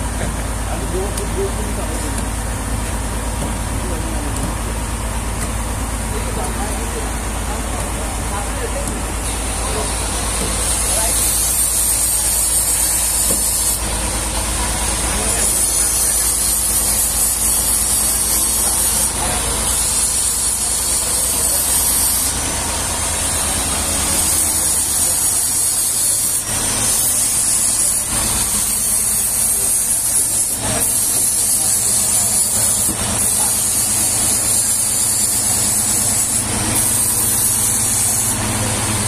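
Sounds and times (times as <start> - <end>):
motor rumble: 0.0 - 39.0.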